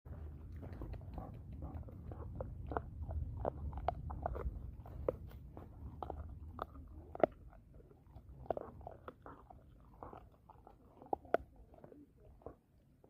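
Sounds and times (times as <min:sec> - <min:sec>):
dog chewing on a bone: 0:00.1 - 0:13.0.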